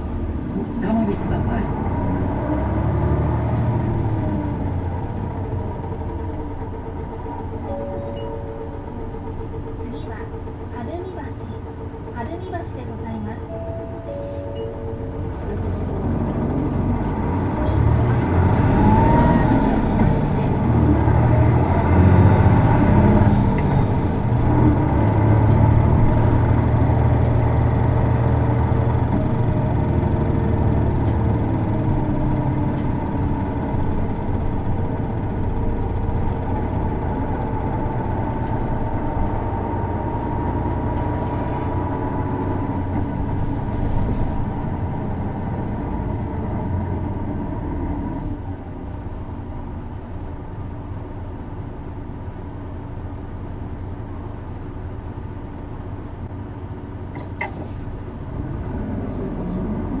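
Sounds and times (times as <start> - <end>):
bus diesel engine driving: 0.0 - 60.0.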